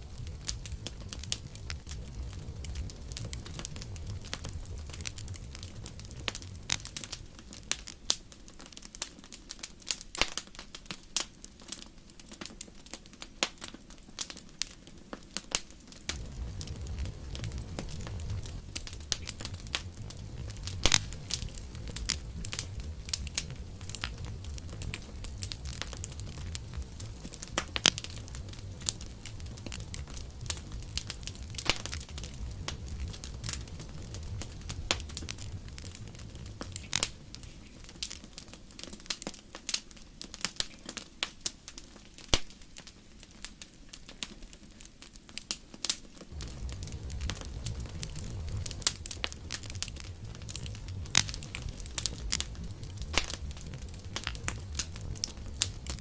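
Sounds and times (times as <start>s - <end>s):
burning wood popping: 0.0s - 56.0s
campfire crackling: 0.0s - 56.0s.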